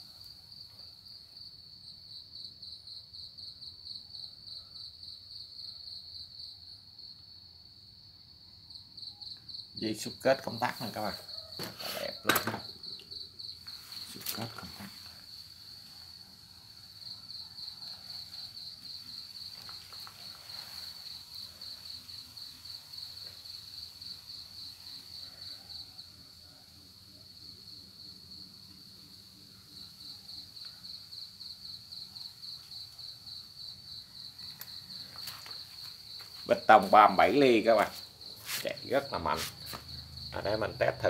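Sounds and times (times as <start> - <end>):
cricket chirping: 0.0 - 41.0.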